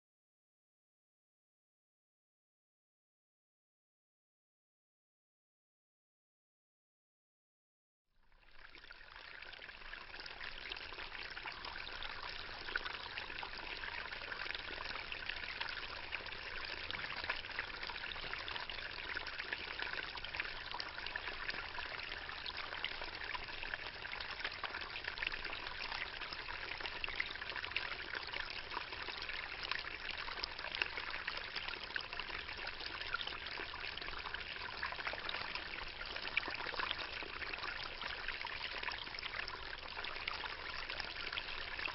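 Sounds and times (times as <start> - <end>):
water trickling and splashing: 8.3 - 41.9.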